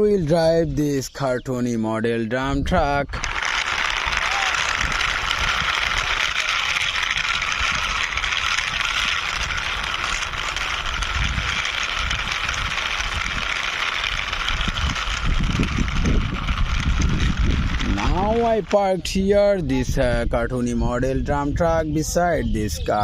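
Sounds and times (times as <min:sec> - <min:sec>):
toy truck wheels rumbling: 0:00.0 - 0:23.0.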